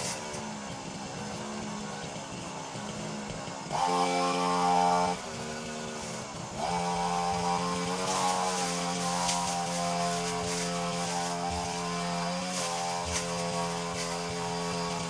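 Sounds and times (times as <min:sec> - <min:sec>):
brushcutter engine revving: 0:00.0 - 0:15.0.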